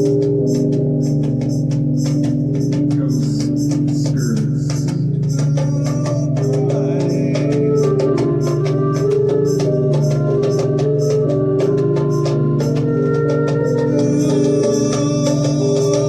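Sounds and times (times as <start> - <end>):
organ-like chords: 0.0 - 16.0.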